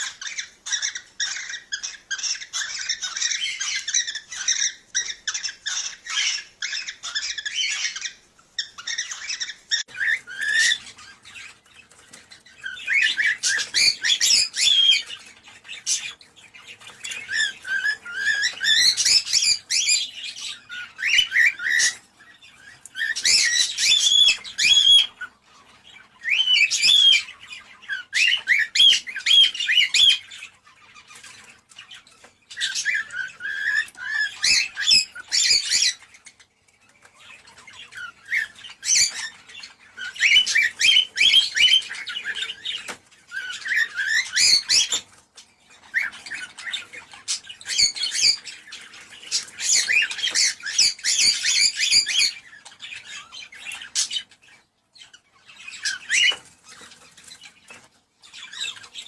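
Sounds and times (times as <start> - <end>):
cockatiels chattering: 0.0 - 59.0.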